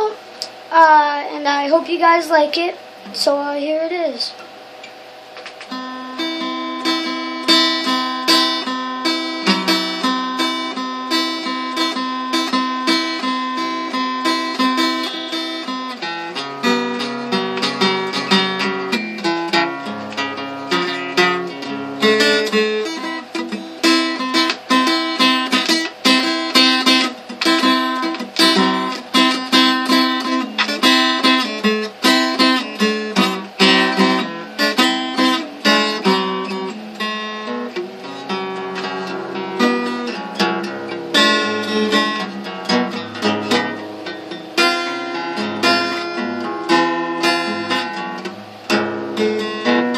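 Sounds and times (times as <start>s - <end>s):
acoustic guitar plucked: 3.9s - 49.9s.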